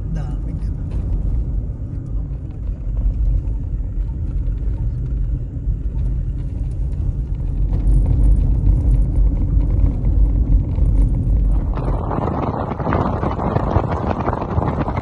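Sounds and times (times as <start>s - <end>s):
vehicle driving on gravel road: 0.0s - 15.0s.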